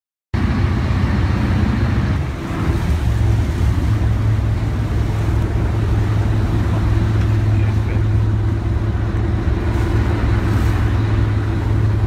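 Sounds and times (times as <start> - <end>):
boat engines droning: 0.4 - 12.0
water rushing past hull: 0.4 - 12.0.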